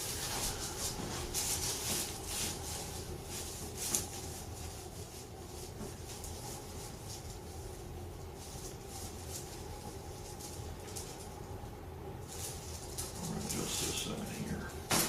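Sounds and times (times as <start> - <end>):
low room hum: 0.0 - 15.0
rustling and handling sounds: 0.0 - 15.0.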